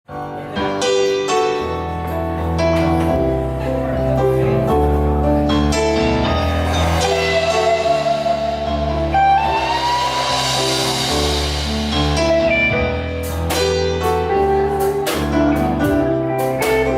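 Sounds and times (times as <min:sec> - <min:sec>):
live blues band playing: 0:00.1 - 0:16.9.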